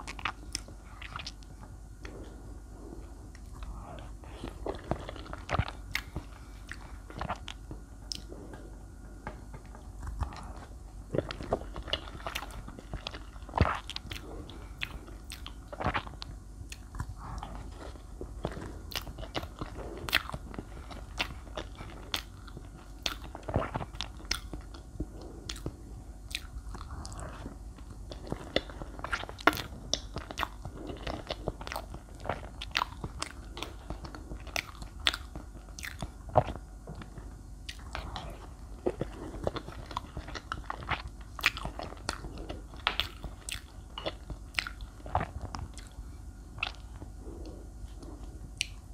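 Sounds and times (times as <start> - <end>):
biting and chewing cake: 0.0 - 48.9.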